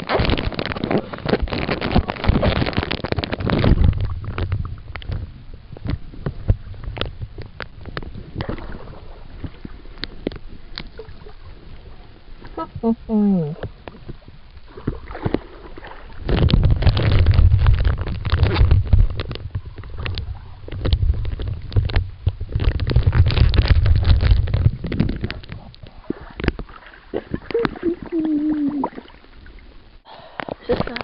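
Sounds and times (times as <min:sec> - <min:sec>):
water splashing against a camera: 0:00.0 - 0:31.0.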